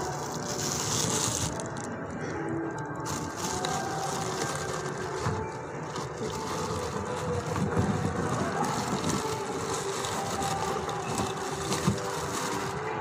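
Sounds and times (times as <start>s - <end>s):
plastic crinkling and rubbing: 0.0s - 13.0s.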